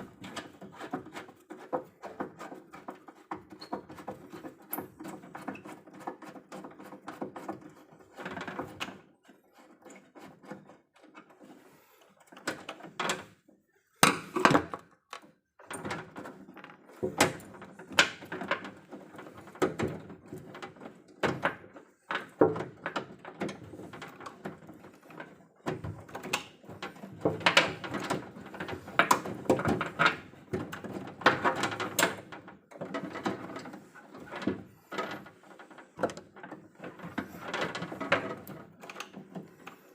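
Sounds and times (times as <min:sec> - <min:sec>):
hand tools and cables clattering: 0:00.0 - 0:39.9.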